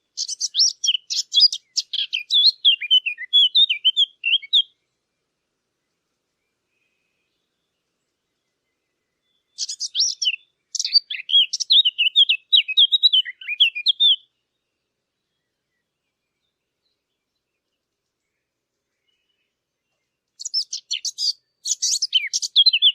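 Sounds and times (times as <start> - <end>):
warbler singing: 0.0 - 22.9.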